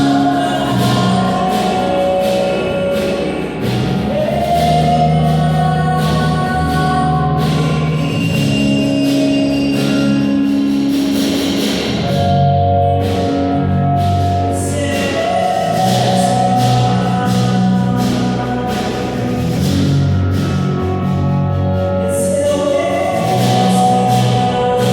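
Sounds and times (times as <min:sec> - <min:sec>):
held chords: 0:00.0 - 0:24.9
percussion strokes: 0:00.0 - 0:24.9
steady bass line: 0:00.0 - 0:24.9.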